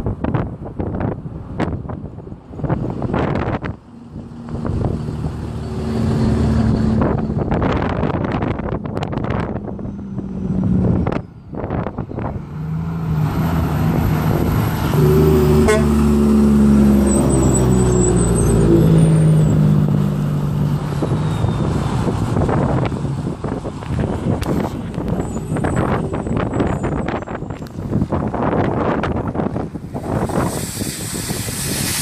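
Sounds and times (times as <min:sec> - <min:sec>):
diesel truck engine passing: 0:00.1 - 0:32.0.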